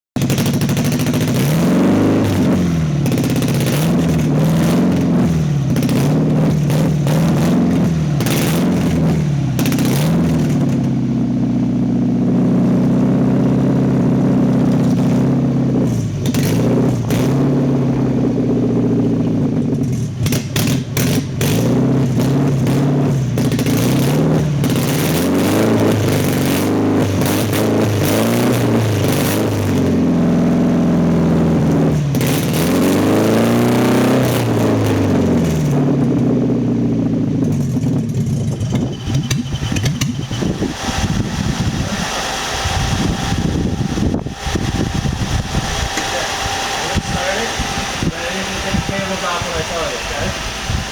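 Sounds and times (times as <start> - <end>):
car engine idling roughly: 0.2 - 50.9.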